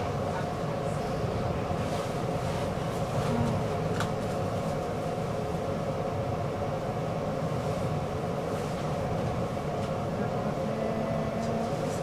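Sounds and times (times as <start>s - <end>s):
constant hum: 0.0s - 12.0s
tram wheels rumbling on tracks: 0.0s - 12.0s.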